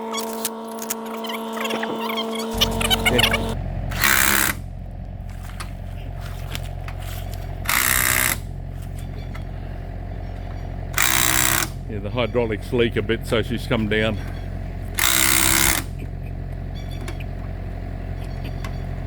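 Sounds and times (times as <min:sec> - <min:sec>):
air compressor running: 0:00.0 - 0:19.0.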